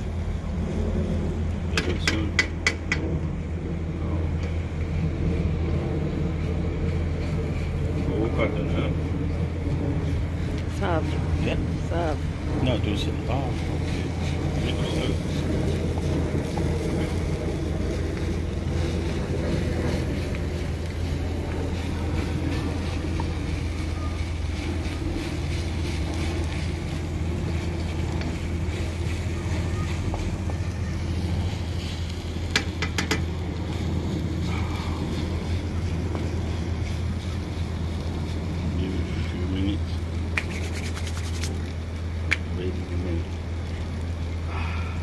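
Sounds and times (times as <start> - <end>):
low rumbling wind noise: 0.0 - 45.0.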